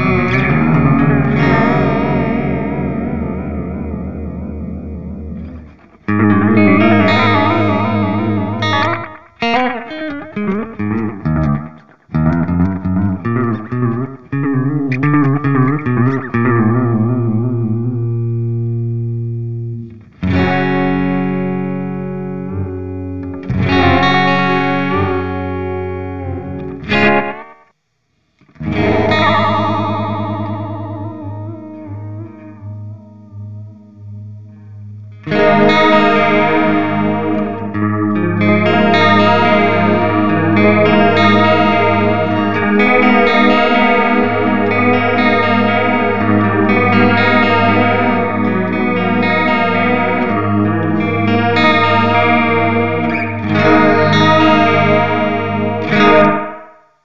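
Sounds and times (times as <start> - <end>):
electric guitar with delay: 0.0 - 27.7, 28.5 - 57.0.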